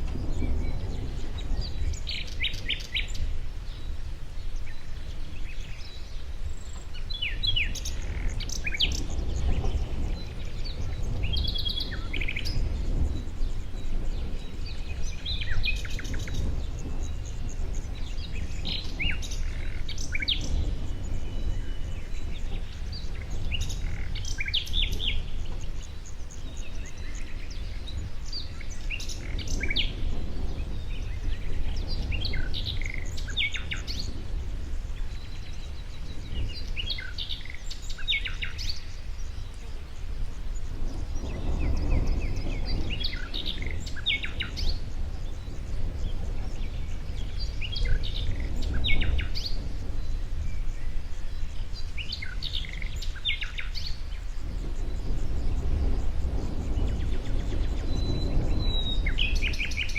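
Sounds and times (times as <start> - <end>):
songbirds chirping: 0.0 - 59.9
steady low rumble: 0.0 - 59.9.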